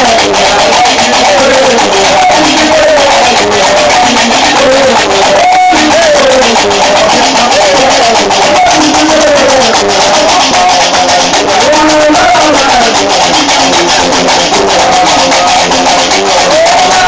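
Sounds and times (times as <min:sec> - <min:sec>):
bass lute: 0:00.0 - 0:17.0
person singing: 0:00.0 - 0:17.0.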